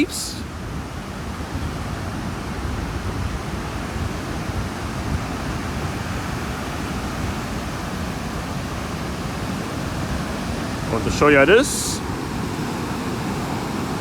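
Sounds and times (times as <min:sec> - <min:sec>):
surf breaking on beach: 0:00.0 - 0:14.0
wind rumbling on microphone: 0:00.0 - 0:14.0.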